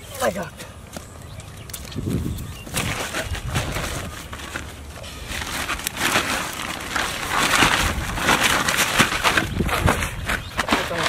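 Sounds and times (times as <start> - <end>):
plastic sack rustling: 2.0 - 11.0.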